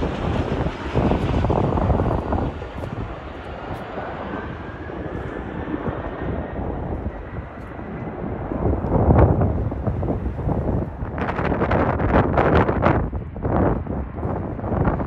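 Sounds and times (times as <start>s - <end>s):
jet engines rushing drone: 0.0s - 15.0s
wind buffeting microphone: 0.0s - 15.0s.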